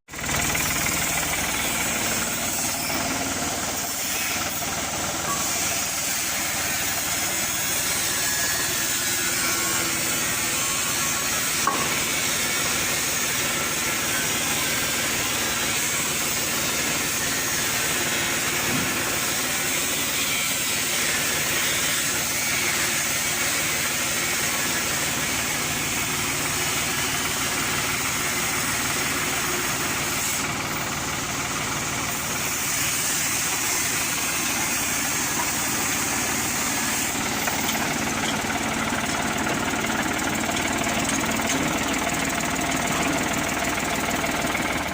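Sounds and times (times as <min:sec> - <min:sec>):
pressure washer motor: 0:00.1 - 0:44.9.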